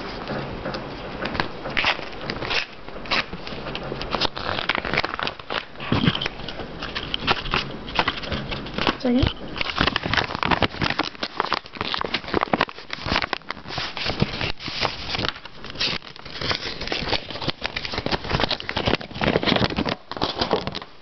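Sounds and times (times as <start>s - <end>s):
paper envelope rustling: 0.0s - 21.0s.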